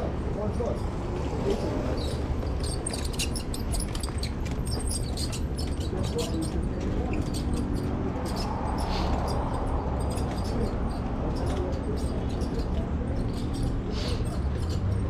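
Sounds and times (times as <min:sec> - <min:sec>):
bike road rumble: 0:00.0 - 0:15.0
wind: 0:00.0 - 0:15.0.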